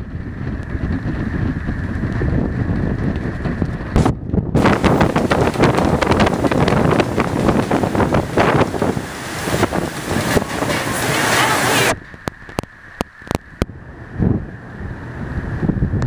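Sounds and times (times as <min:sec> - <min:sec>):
hurricane winds buffeting microphone: 0:00.0 - 0:16.0.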